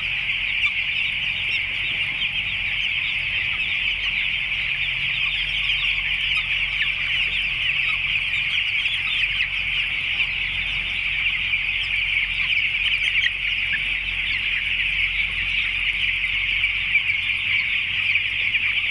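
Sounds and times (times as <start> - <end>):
chicks peeping: 0.0 - 18.9.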